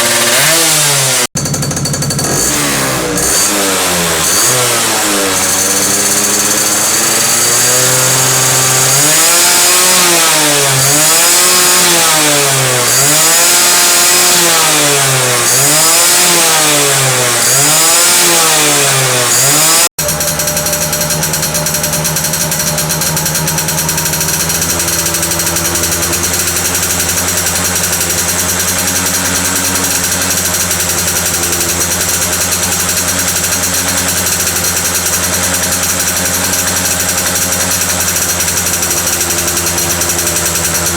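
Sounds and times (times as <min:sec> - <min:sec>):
two-stroke engine idling: 0:00.0 - 0:40.9
two-stroke engine revving: 0:00.0 - 0:40.9.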